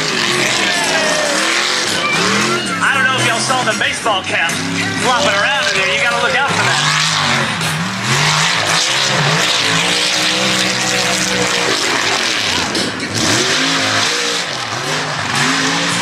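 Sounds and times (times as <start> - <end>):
tires spinning in mud: 0.0 - 16.0
truck engine revving: 0.0 - 16.0.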